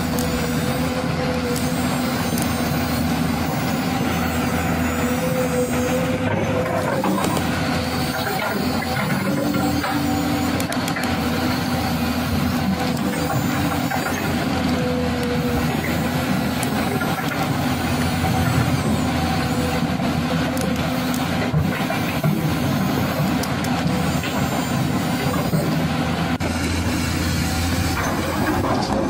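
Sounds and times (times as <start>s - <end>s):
toy excavator motors whining: 0.0s - 29.0s.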